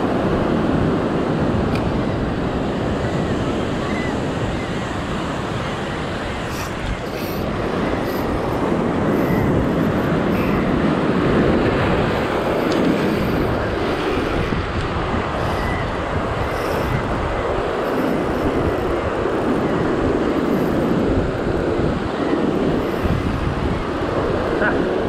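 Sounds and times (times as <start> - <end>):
heavy surf breaking on rocks: 0.0 - 25.0
wind buffeting microphone: 0.0 - 25.0.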